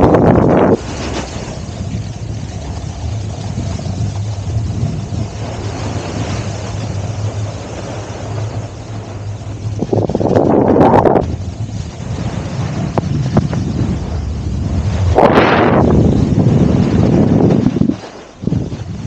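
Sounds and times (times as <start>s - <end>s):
wind buffeting microphone: 0.0s - 19.0s
skis sliding through slushy snow: 0.2s - 10.6s, 11.2s - 19.0s.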